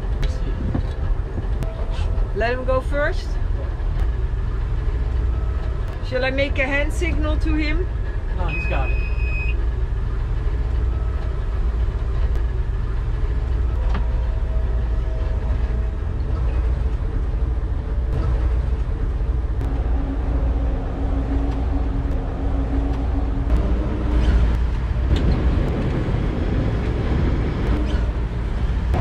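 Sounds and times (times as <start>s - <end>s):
boat engines rumbling: 0.0s - 29.0s.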